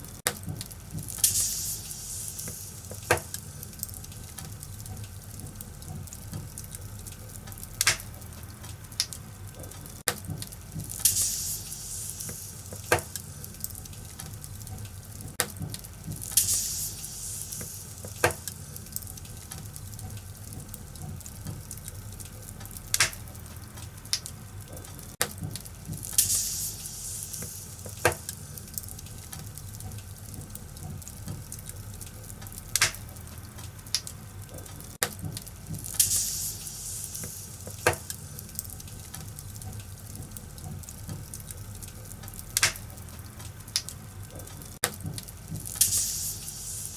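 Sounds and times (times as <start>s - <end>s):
fire hissing: 0.0s - 46.9s
low steady rumble: 0.0s - 46.9s
wood fire crackling: 0.0s - 46.9s.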